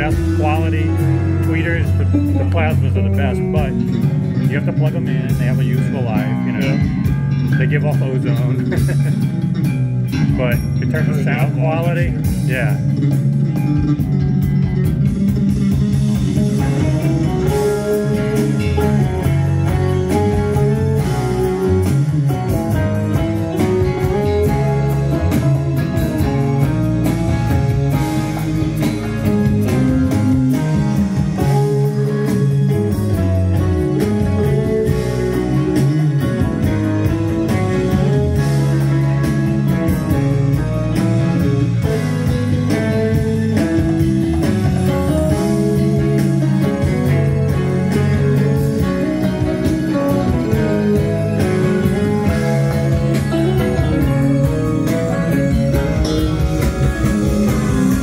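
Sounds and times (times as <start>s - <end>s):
guitar music over loudspeakers: 0.0s - 58.0s.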